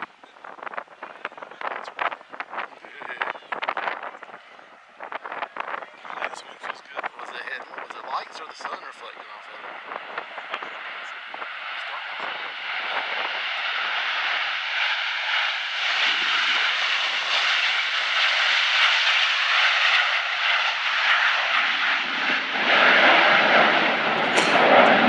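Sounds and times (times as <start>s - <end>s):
jet engines in flight: 0.0s - 25.0s.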